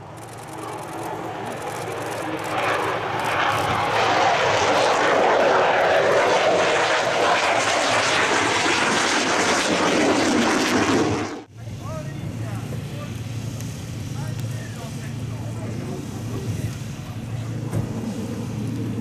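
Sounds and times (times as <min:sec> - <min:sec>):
jet fighter engine roar: 0:00.0 - 0:19.0.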